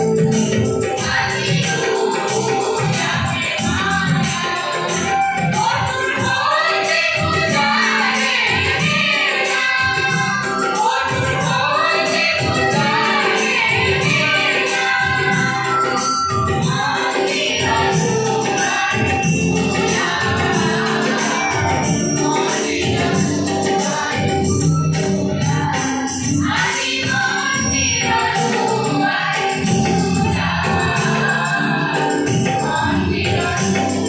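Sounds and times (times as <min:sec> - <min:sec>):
children's choir singing: 0:00.0 - 0:34.0.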